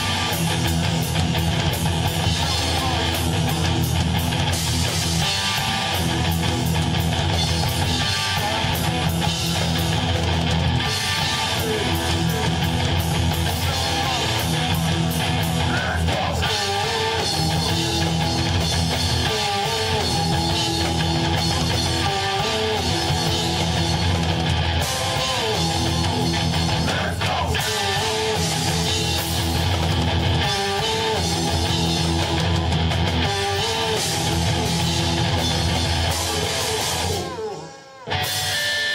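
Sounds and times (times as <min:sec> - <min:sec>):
electric guitar: 0:00.0 - 0:38.9
live heavy rock band: 0:00.0 - 0:38.9.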